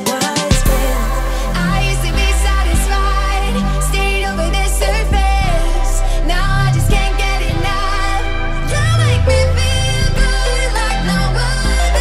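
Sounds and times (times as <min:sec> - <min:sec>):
pop music with singing: 0:00.0 - 0:12.0
deep steady bass: 0:00.5 - 0:12.0.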